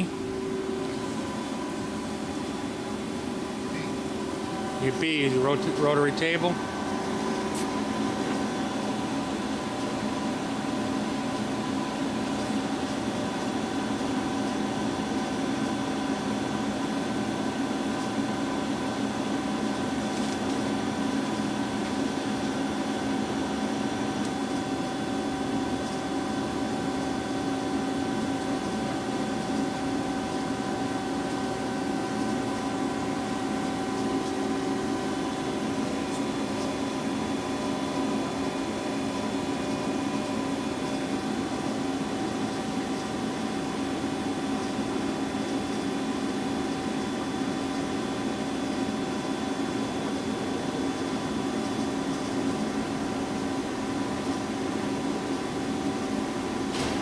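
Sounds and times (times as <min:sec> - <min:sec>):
boring mill humming: 0:00.0 - 0:57.0.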